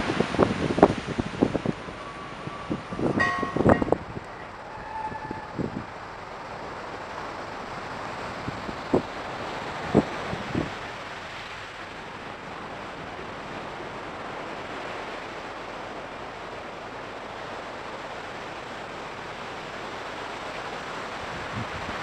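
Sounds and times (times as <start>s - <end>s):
ocean surf: 0.0s - 22.0s
wind: 0.0s - 22.0s.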